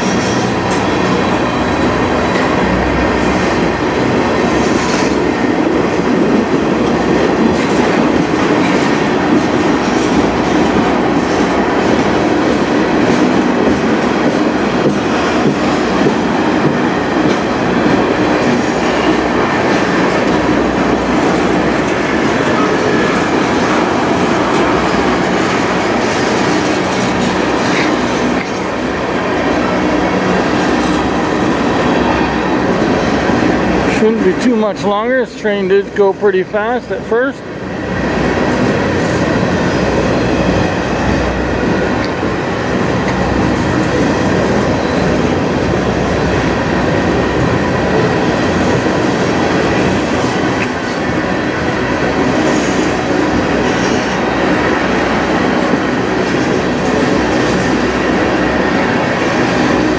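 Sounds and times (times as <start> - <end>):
steel train wheels on rails: 0.0 - 59.9.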